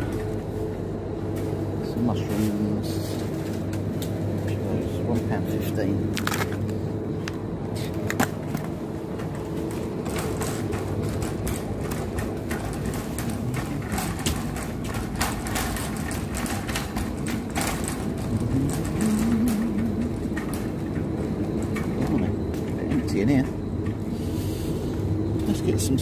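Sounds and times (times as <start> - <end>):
shopping trolley rolling on tiles: 0.0 - 26.0
trolley wheels and basket rattling: 0.0 - 26.0.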